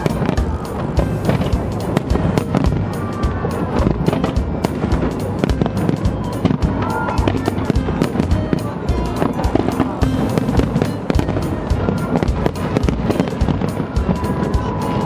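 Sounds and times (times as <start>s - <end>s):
fireworks bursting: 0.0s - 15.0s
music playing: 0.0s - 15.0s.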